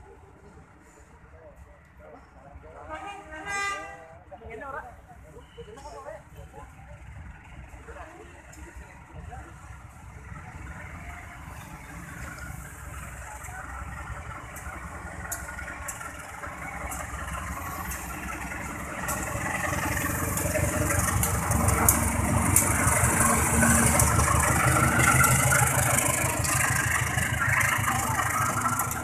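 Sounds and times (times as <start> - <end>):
diesel locomotive passing: 0.0 - 29.0.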